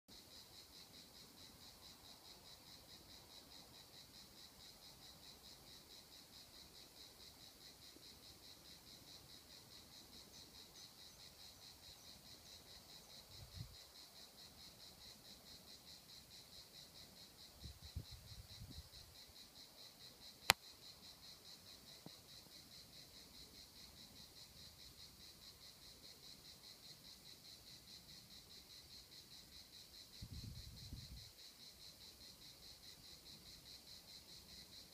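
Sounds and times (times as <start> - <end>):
insects buzzing: 0.1 - 34.9.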